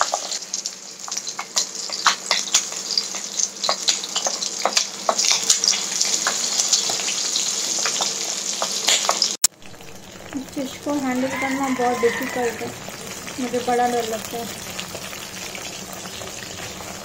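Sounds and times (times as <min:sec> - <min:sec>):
fish sizzling in oil: 0:00.0 - 0:17.0.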